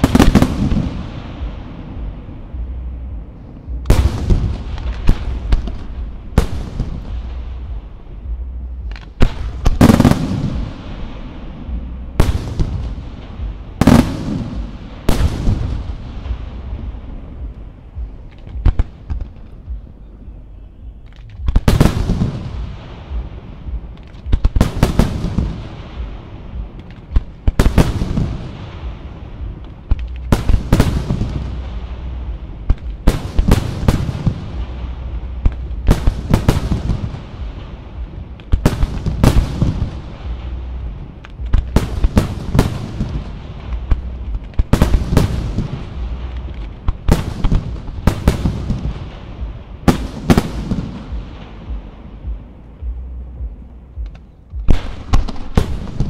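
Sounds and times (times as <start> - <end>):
low rumbling echo: 0.0 - 56.0.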